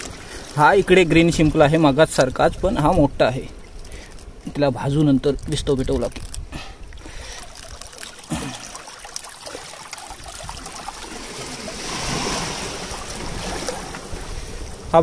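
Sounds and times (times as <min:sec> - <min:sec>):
sea water washing among rocks: 0:00.0 - 0:04.1, 0:07.0 - 0:15.0.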